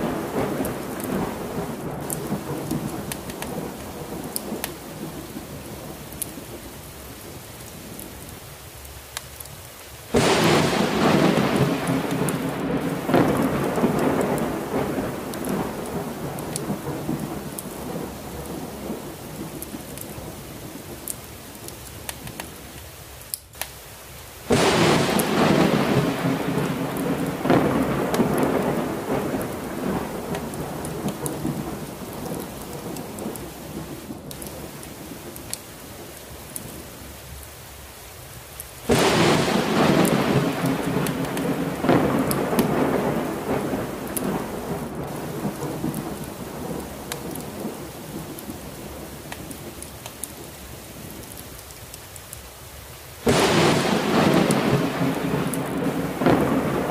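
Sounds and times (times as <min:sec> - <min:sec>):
thunderclaps: 0:00.0 - 0:06.6, 0:10.1 - 0:21.2, 0:24.5 - 0:36.8, 0:38.9 - 0:51.2, 0:53.2 - 0:56.9
heavy rain: 0:00.0 - 0:56.9.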